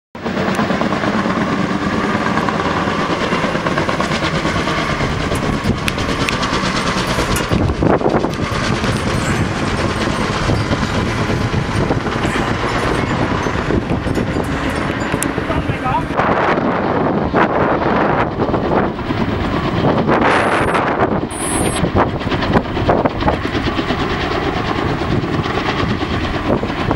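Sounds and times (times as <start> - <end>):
helicopter rotor chopping: 0.2 - 26.9.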